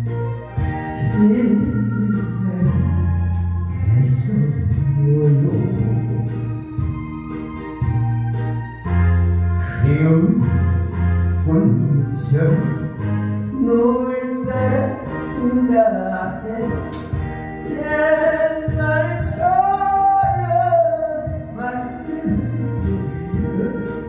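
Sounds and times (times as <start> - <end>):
person singing with vibrato: 0.0 - 7.2, 9.4 - 24.0
instrumental accompaniment: 0.0 - 24.0.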